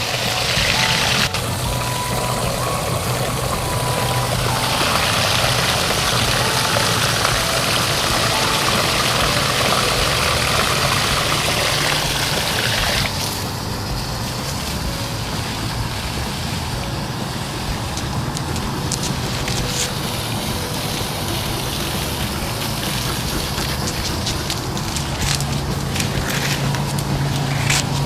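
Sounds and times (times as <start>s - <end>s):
low even hum: 0.0s - 28.0s.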